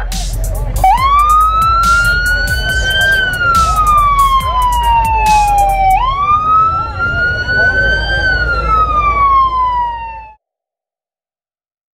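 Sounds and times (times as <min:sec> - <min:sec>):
police siren wailing: 0:00.0 - 0:10.4.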